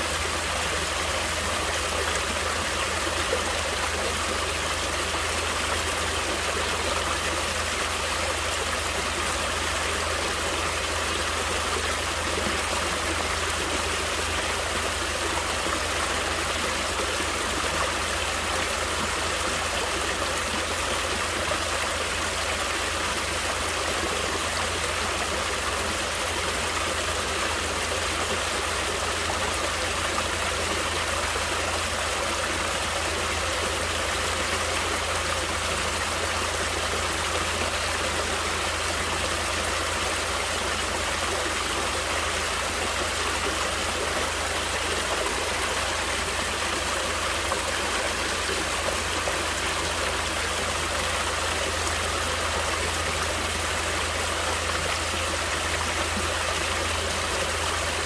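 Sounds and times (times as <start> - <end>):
stream of flowing water: 0.0 - 58.0.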